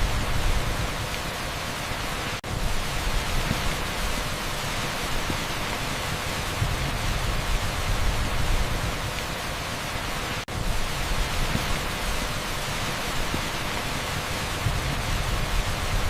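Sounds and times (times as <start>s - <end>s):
torrential rain on asphalt: 0.0s - 16.0s.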